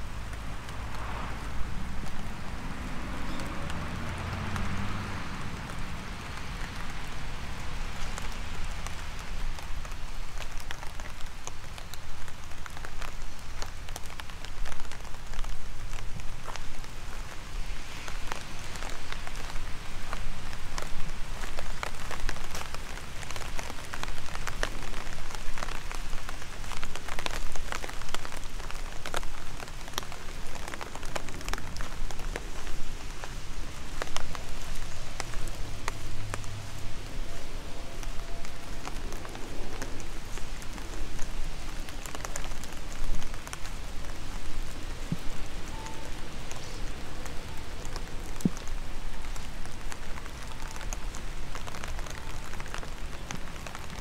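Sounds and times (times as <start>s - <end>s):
rain hissing: 0.0s - 54.0s
raindrops ticking close by: 0.0s - 54.0s.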